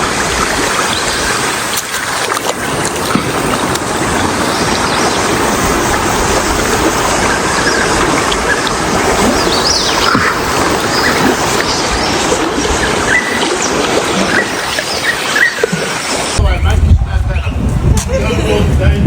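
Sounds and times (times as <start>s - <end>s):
floodwater river roaring: 0.0s - 19.0s.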